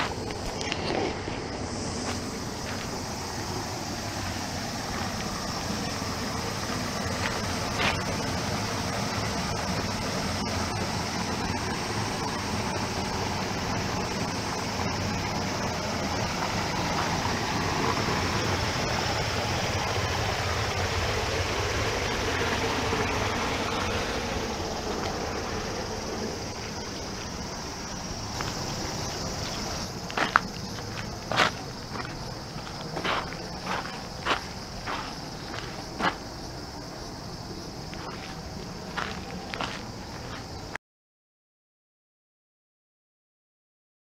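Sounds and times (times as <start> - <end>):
floodwater rushing over road: 0.0 - 40.5.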